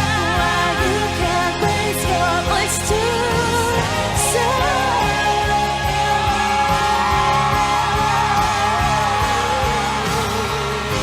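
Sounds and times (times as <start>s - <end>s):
musical accompaniment: 0.0s - 11.0s
woman singing pop ballad: 0.0s - 11.0s.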